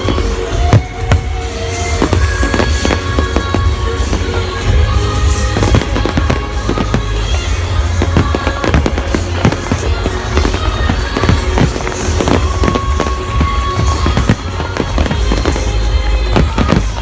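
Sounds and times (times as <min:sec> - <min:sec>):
firework bangs and crackles: 0:00.0 - 0:17.0
music soundtrack: 0:00.0 - 0:17.0.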